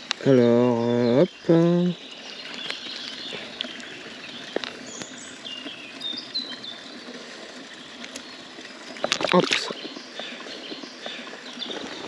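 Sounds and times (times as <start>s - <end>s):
river flowing over gravel: 0.0s - 12.0s
small birds chirping: 0.0s - 12.0s.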